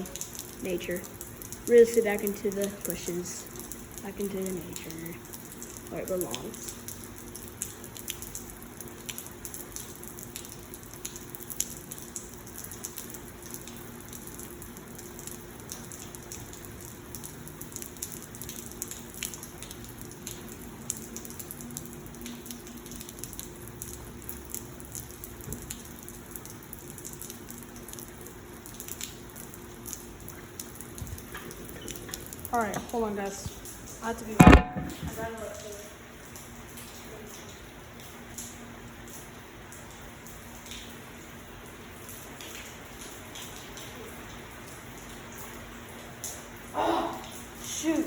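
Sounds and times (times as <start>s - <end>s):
raindrops ticking: 0.0s - 48.0s.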